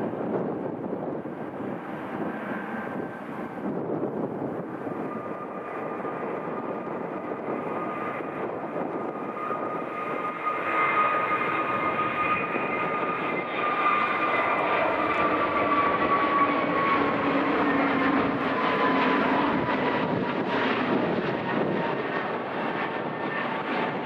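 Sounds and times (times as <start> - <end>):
airliner engines whining: 0.0 - 24.0.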